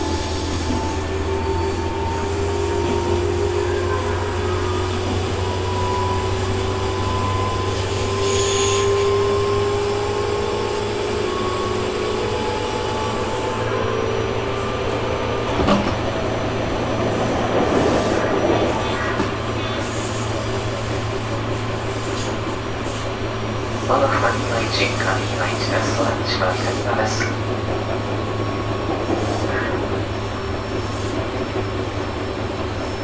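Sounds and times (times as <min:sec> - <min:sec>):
electric train running hum: 0:00.0 - 0:33.0.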